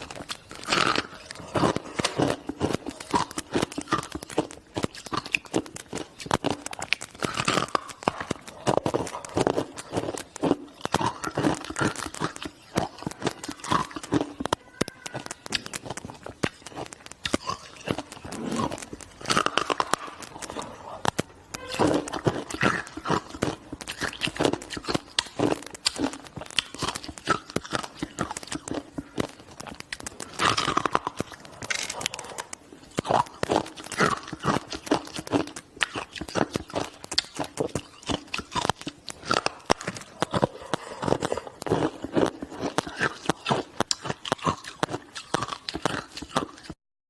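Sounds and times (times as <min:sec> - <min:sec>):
person crunching ice: 0:00.0 - 0:46.8.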